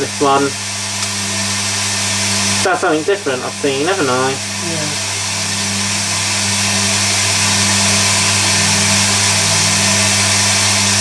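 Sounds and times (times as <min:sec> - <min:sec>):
washing machine hum: 0:00.0 - 0:11.0.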